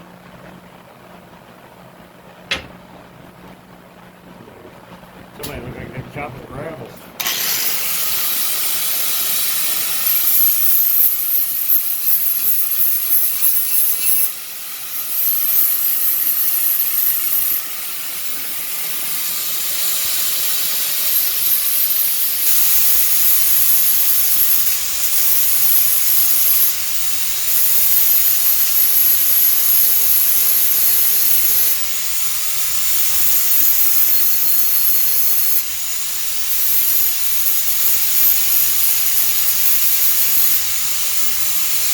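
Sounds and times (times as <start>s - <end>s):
angle grinder grinding steel: 7.2s - 41.9s.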